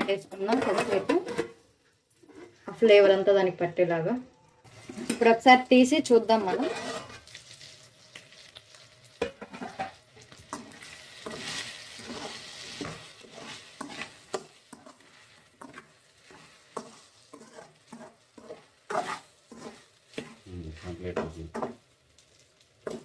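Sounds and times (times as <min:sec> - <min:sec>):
metal spoon scraping a pan: 0:00.0 - 0:01.6, 0:02.2 - 0:03.1, 0:04.6 - 0:05.5, 0:06.1 - 0:23.0
chicken sizzling: 0:00.0 - 0:23.0.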